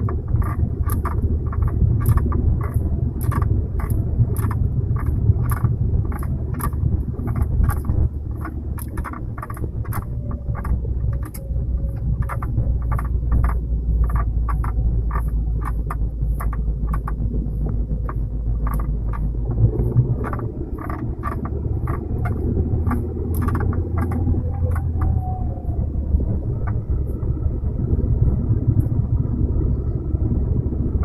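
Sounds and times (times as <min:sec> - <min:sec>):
low car rumble: 0:00.0 - 0:31.0.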